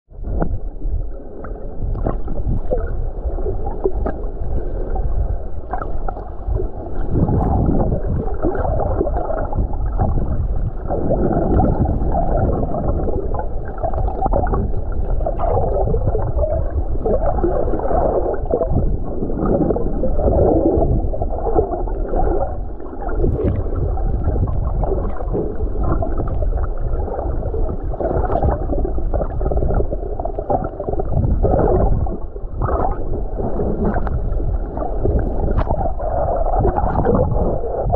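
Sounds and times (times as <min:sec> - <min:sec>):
gurgling bubbles: 0:00.1 - 0:37.9
muffled underwater water rush: 0:00.1 - 0:37.9.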